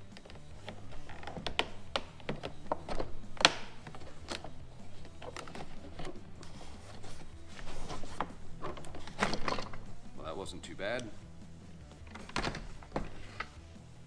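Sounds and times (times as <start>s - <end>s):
hard plastic clicks and knocks: 0.0s - 13.8s.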